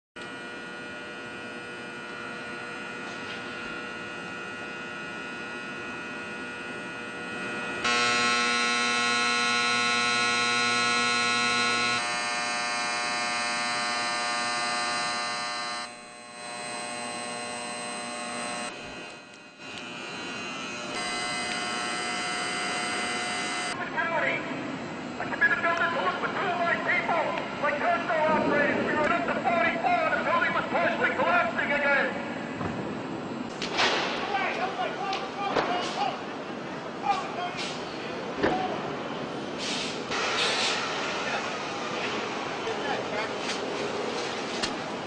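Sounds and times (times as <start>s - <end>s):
electrical hum: 0.2s - 45.0s.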